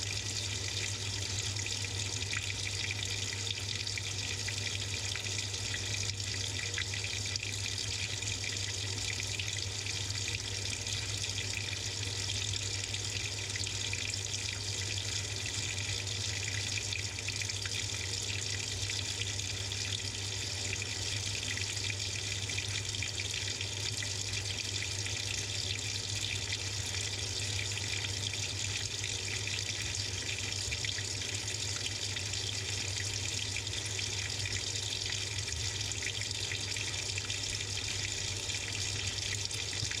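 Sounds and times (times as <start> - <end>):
water pouring into washing machine: 0.0 - 40.0.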